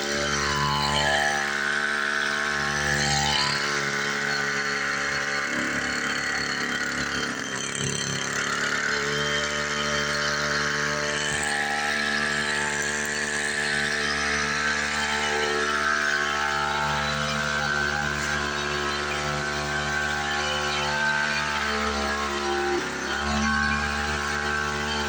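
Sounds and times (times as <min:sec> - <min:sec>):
small sprayer engine running: 0:00.0 - 0:25.0.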